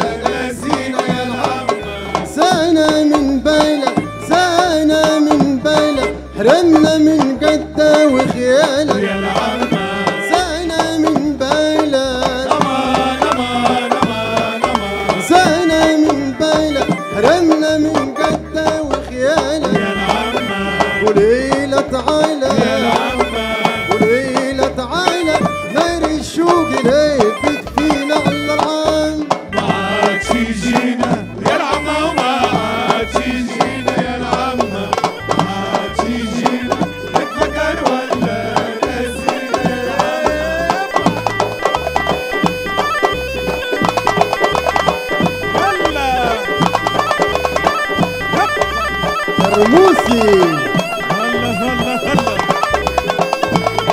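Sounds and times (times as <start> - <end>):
man singing folk song: 0.0 - 41.3, 48.5 - 52.6
hand drums steady beat: 0.0 - 53.9.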